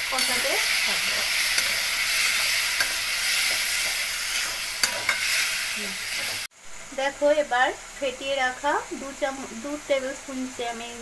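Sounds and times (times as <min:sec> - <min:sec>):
spices sizzling in a pan: 0:00.0 - 0:11.0.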